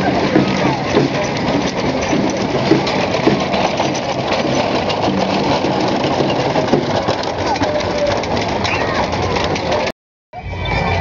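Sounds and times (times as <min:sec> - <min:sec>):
wooden wheels rattling over cobblestones: 0:00.0 - 0:11.0.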